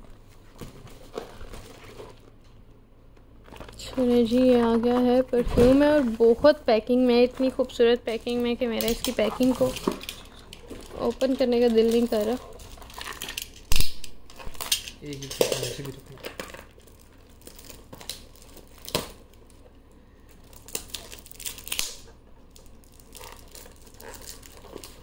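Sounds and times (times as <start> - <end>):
wrapping crinkling and rustling: 0.0 - 2.6, 3.2 - 25.0.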